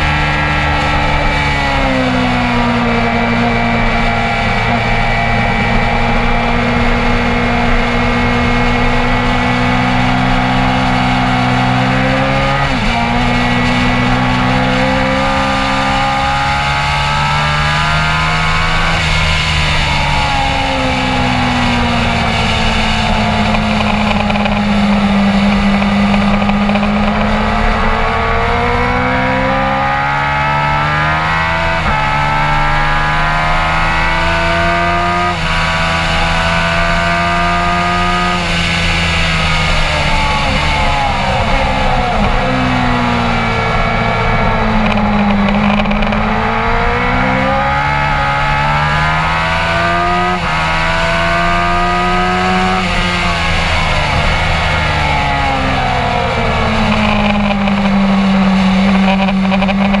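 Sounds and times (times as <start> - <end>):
race vehicle engine revving: 0.0 - 60.0.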